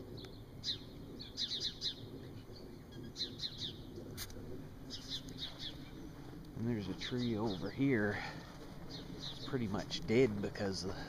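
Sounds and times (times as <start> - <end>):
small bird chirping: 0.1 - 10.4.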